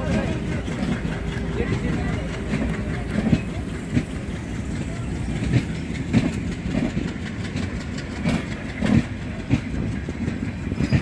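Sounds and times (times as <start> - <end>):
train coaches rumbling past: 0.0 - 11.0
train wheels clickety-clack on rails: 0.0 - 11.0.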